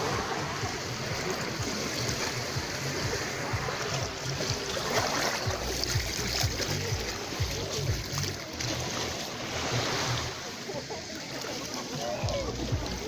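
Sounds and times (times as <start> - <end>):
sea waves washing on beach: 0.0 - 13.0.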